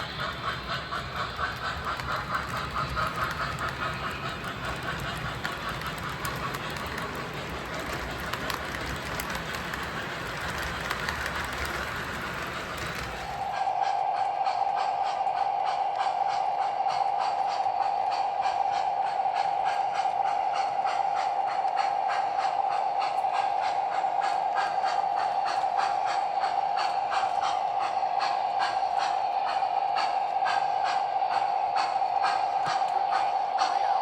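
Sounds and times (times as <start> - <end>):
model steam locomotive chuffing: 0.0 - 34.0.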